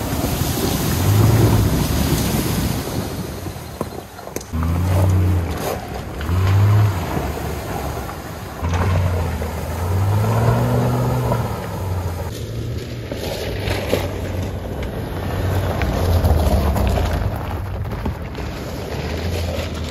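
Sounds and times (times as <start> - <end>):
tyres on loose gravel and water: 0.0 - 19.9.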